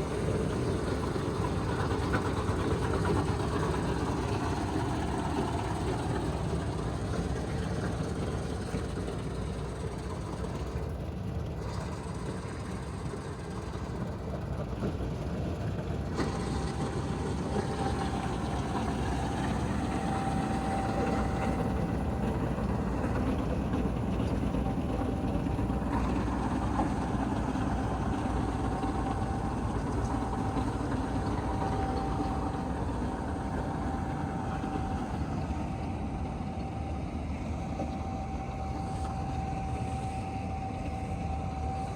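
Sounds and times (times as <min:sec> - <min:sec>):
combine harvester rumbling: 0:00.0 - 0:41.9
thin steady whine: 0:00.0 - 0:41.9.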